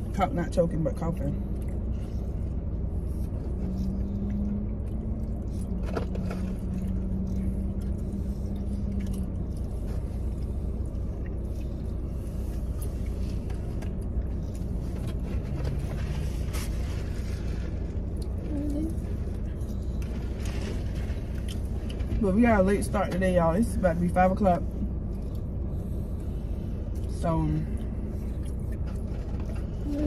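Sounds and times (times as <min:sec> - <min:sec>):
car engine idling: 0:00.0 - 0:30.0
steady hum: 0:00.0 - 0:30.0.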